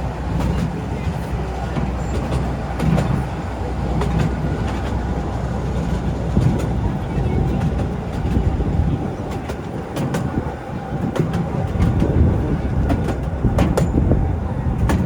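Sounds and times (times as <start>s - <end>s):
train rumbling: 0.0s - 15.0s
wheels clacking on rails: 0.0s - 15.0s.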